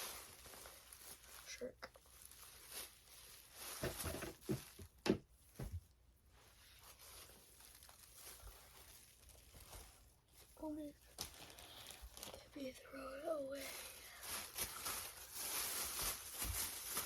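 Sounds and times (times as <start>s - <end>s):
plastic toys rustling: 0.0s - 17.0s.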